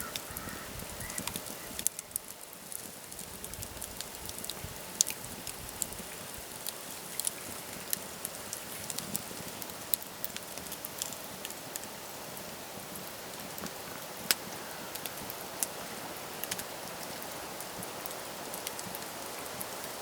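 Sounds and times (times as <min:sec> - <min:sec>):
raindrops ticking on a surface: 0:00.0 - 0:20.0
soft rain patter: 0:00.0 - 0:20.0.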